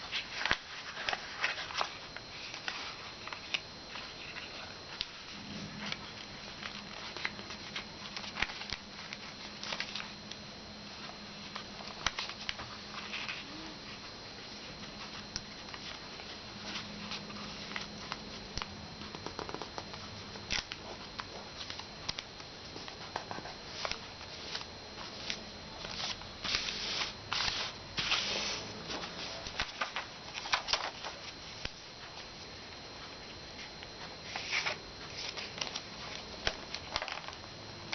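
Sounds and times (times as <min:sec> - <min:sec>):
paper rustling and crinkling: 0:00.0 - 0:10.3, 0:10.9 - 0:32.3, 0:33.6 - 0:37.9
faint high whine: 0:00.0 - 0:37.9.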